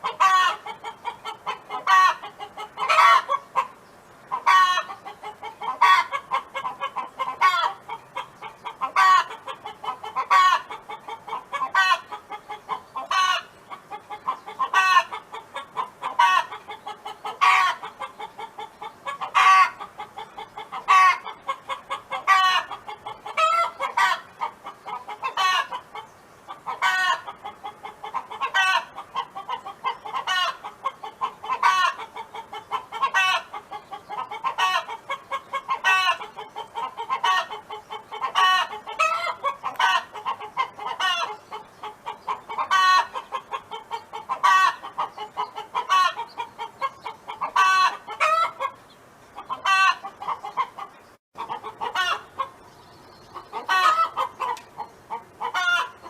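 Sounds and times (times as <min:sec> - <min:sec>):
hen clucking: 0:00.0 - 0:56.0.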